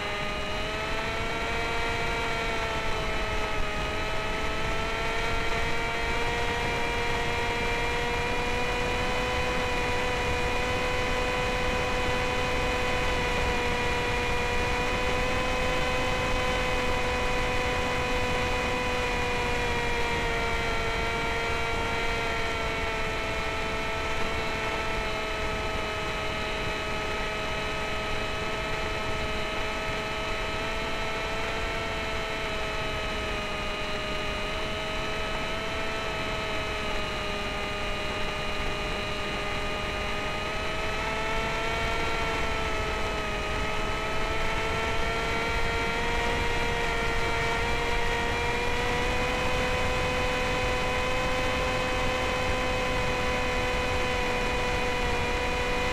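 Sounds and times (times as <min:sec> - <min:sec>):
electric motor whine: 0:00.0 - 0:55.9.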